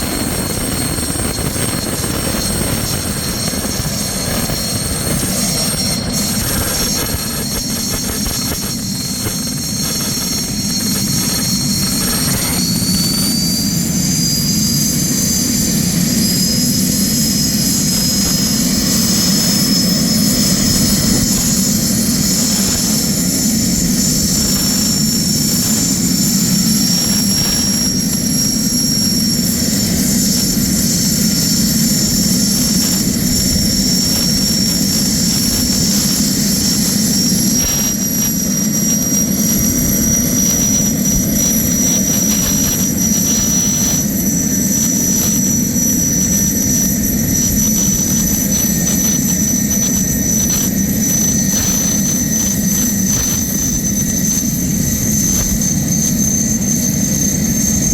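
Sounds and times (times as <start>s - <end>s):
turbine whine: 0.0s - 57.9s.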